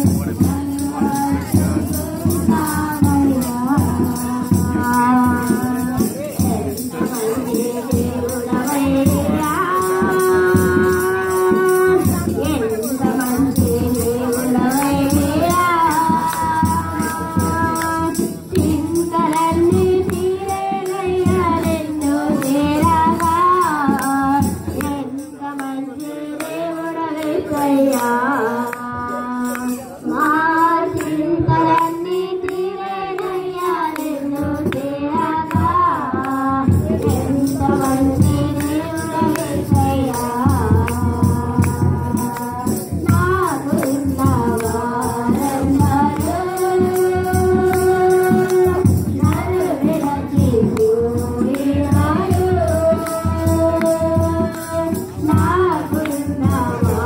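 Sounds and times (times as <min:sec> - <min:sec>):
percussion steady beat: 0:00.0 - 0:57.0
person singing melody: 0:00.0 - 0:57.0.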